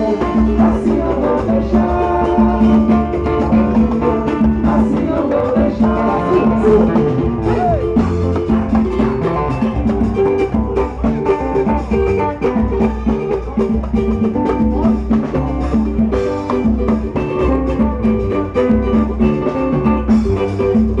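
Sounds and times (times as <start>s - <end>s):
drums and percussion: 0.0s - 21.0s
plucked strings: 0.0s - 21.0s.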